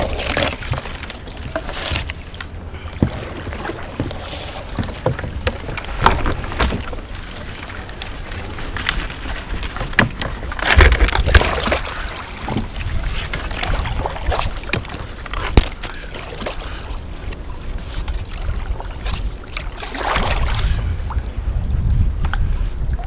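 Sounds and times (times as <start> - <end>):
paddle splashing in water: 0.0 - 21.4.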